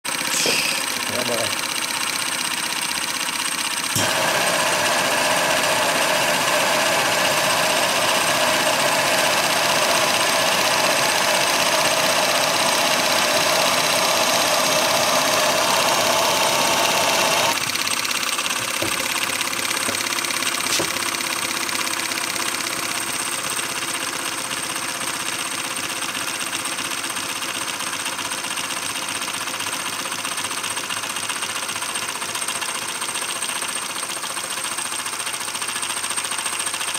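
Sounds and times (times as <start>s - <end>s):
model engine mechanical clatter: 0.1s - 4.2s, 7.2s - 36.9s.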